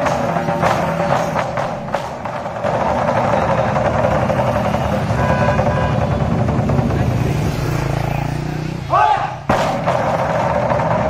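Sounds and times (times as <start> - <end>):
barrel drums rolling: 0.0 - 8.2, 9.5 - 11.0.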